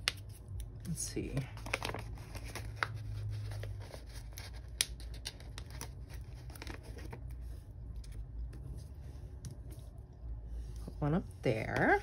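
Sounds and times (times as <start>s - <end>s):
paper sticker sheet rustling: 0.0s - 9.9s.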